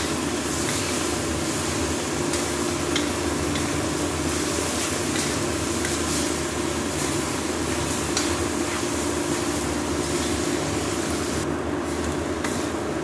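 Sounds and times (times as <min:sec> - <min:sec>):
sauce sizzling: 0:00.0 - 0:12.8.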